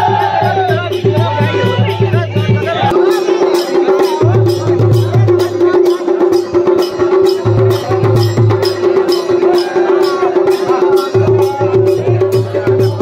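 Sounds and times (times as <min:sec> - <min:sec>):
drums beaten in fast rhythm: 0:00.0 - 0:13.0.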